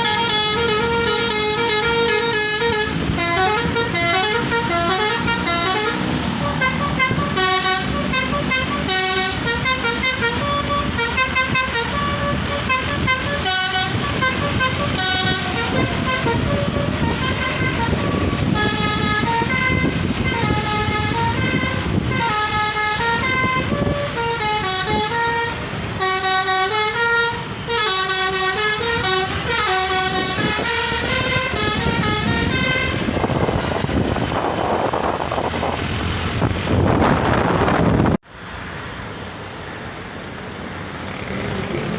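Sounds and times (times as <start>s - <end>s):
musical air horn melodies: 0.0s - 35.8s
bus engine: 0.0s - 41.9s
road rumble: 0.0s - 41.9s
rushing wind: 0.0s - 41.9s.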